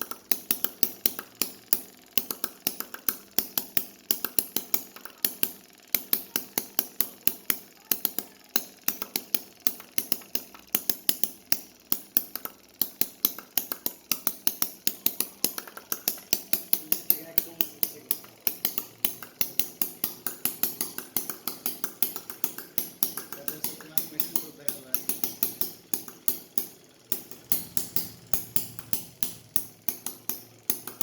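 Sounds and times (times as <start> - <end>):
miniature engine clicking rapidly: 0.0 - 31.0.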